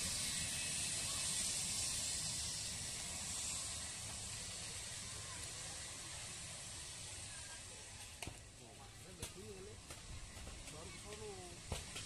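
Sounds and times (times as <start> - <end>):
jet engines hissing: 0.0 - 12.0.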